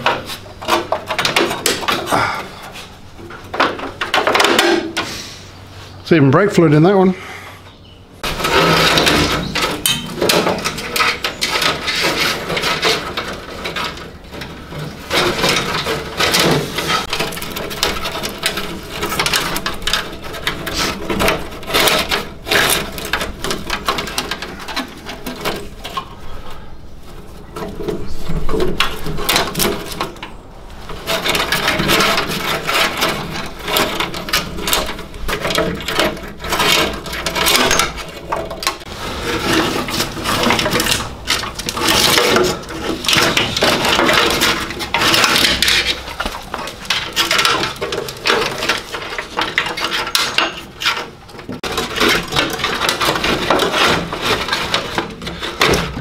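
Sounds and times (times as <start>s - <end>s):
clicks and knocks on metal: 0.0s - 2.1s, 8.2s - 26.2s, 27.1s - 56.0s
wires rustling and scraping: 0.0s - 7.2s, 8.2s - 56.0s.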